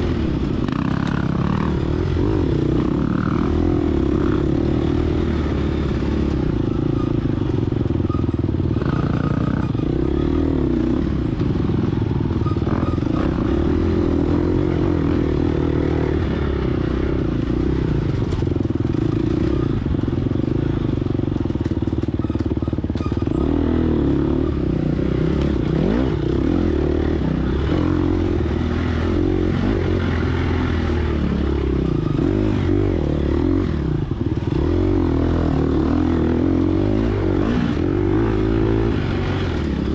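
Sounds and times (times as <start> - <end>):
dirt bike engine revving: 0.0 - 7.6, 8.7 - 21.0, 22.1 - 39.9.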